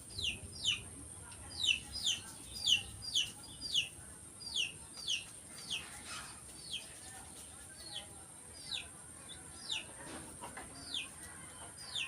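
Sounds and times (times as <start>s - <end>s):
chicks peeping: 0.0s - 0.9s, 1.5s - 12.0s.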